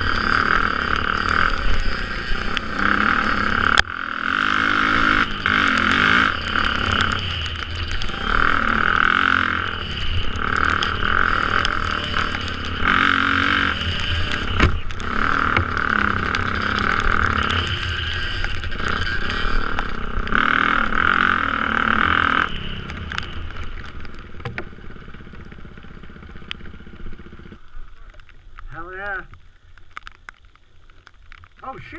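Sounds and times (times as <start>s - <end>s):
dirt bike engine revving: 0.0s - 27.6s.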